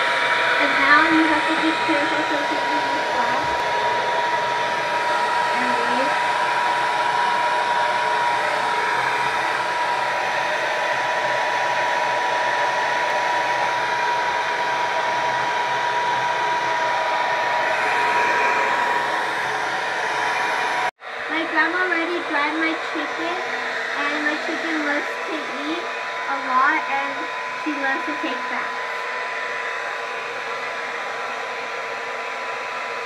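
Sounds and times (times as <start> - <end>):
hair dryer blowing: 0.0 - 33.0.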